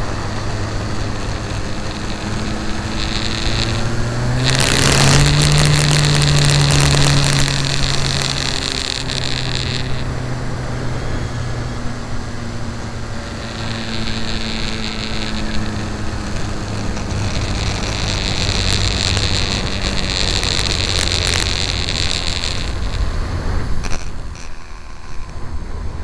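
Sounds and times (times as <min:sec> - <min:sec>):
high whine: 0:00.0 - 0:26.0
model aircraft motor droning: 0:00.0 - 0:26.0.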